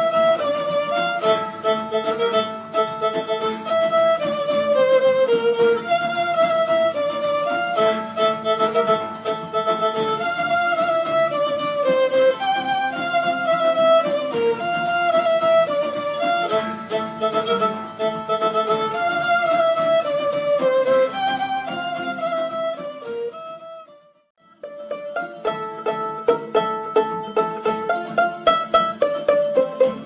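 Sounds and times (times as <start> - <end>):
light steady beat: 0.0 - 30.0
violin melody: 0.0 - 30.0.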